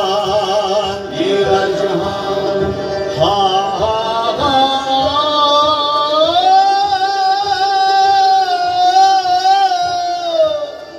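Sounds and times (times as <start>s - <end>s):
man singing: 0.0s - 10.9s.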